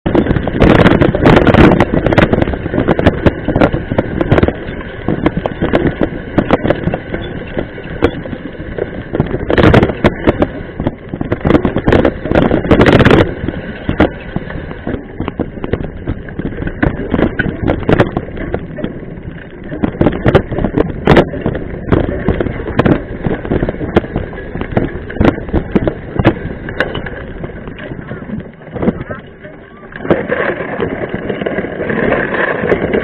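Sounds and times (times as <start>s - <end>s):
mountain bike rattling and knocking: 0.0s - 33.0s
wind buffeting microphone: 0.0s - 33.0s.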